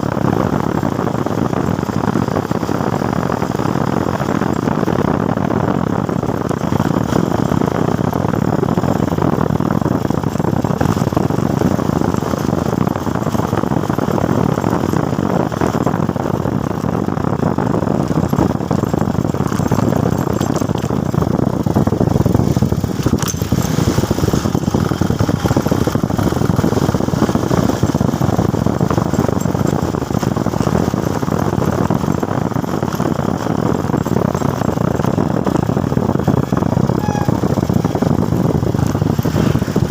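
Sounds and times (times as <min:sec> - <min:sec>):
motorcycle engine: 0:00.0 - 0:39.9
wind and road noise: 0:00.0 - 0:39.9.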